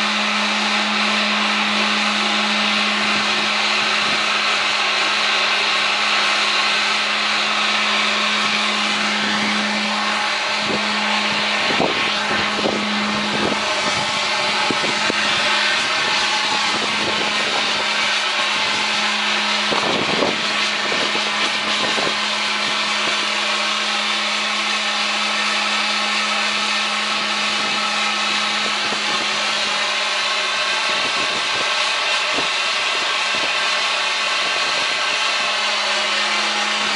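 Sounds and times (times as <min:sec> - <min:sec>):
boiler burner and blower rushing: 0:00.0 - 0:36.9
constant low hum: 0:00.0 - 0:36.9.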